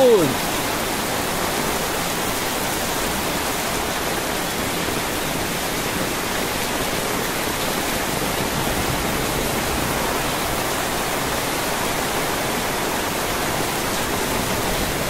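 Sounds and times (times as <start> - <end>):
heavy rain on pavement: 0.0 - 15.0.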